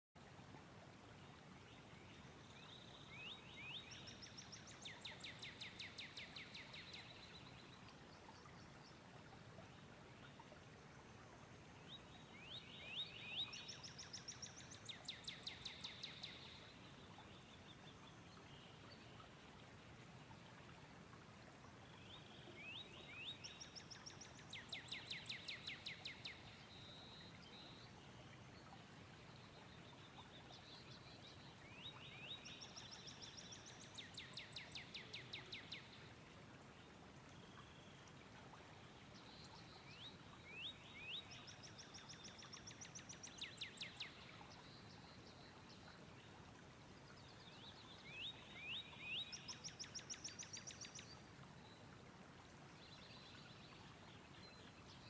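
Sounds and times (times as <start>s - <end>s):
outdoor ambience hiss: 0.2s - 55.0s.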